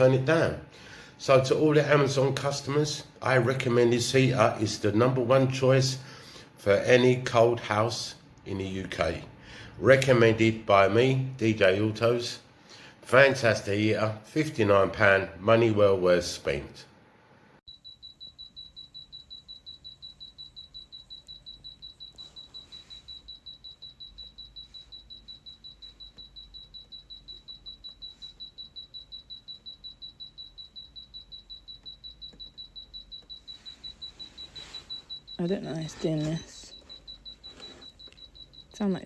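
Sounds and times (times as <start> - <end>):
space heater beeping rapidly: 0.0 - 12.2, 17.7 - 39.0.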